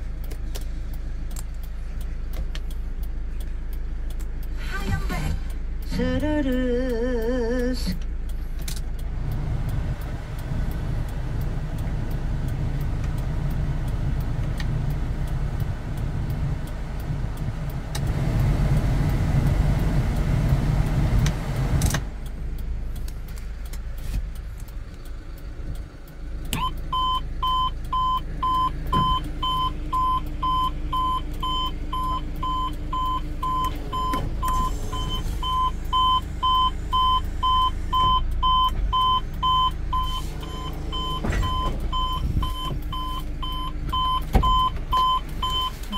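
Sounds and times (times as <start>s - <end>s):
truck engine idling: 0.0s - 45.9s.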